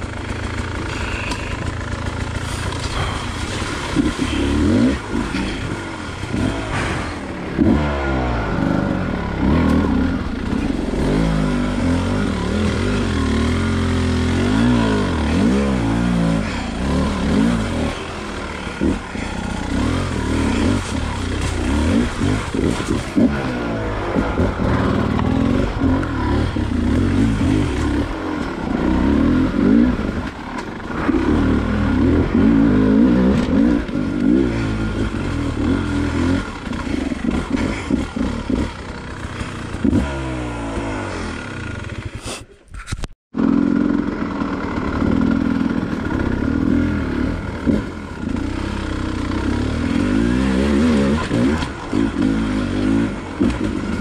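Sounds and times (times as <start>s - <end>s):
dirt bike engine revving: 0.0s - 42.5s, 43.3s - 54.0s.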